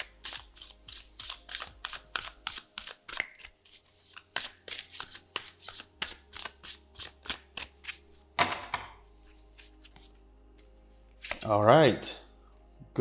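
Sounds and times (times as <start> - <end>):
cards being shuffled: 0.0 - 8.3, 9.2 - 11.5.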